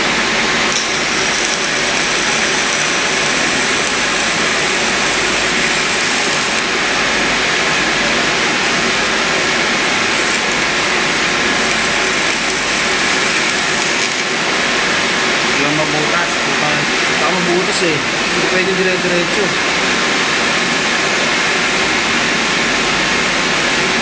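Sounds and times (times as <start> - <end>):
arc welding crackling sizzle: 0.0 - 19.4.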